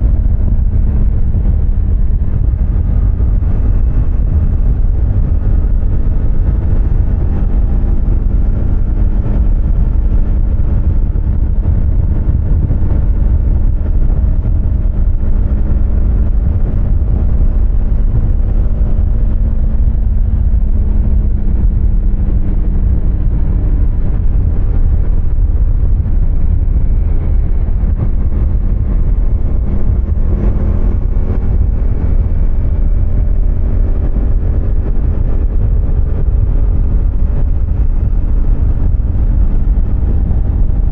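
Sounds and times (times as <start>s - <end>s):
motorcycle engine running: 0.0s - 40.9s
wind and road noise rumble: 0.0s - 40.9s.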